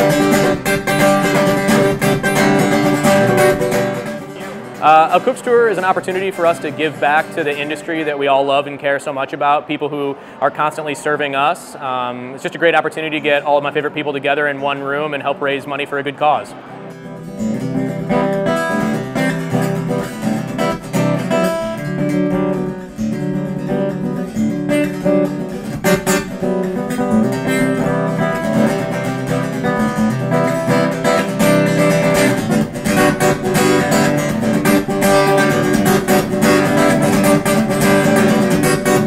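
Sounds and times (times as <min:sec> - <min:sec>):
strummed acoustic guitar music: 0:00.0 - 0:09.5, 0:12.4 - 0:39.0.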